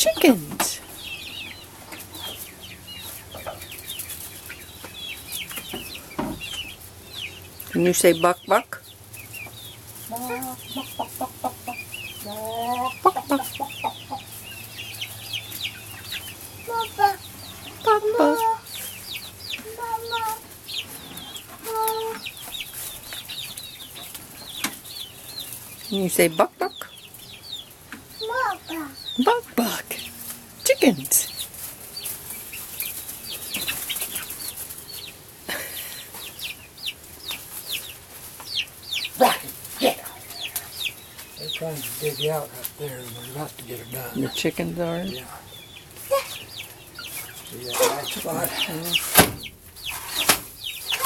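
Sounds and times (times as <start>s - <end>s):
chickens chirping: 0.0s - 51.0s.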